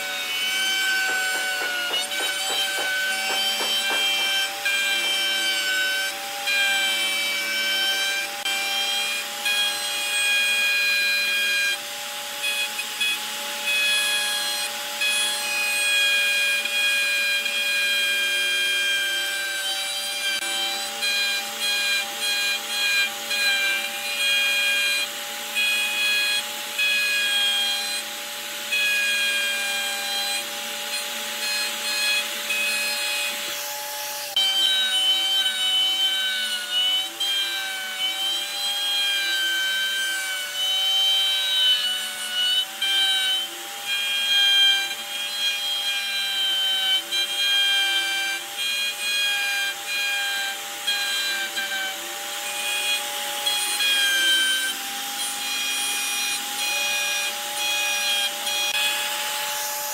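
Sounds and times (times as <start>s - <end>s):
router bit cutting wood: 0.0s - 59.9s
router motor whine: 0.0s - 59.9s.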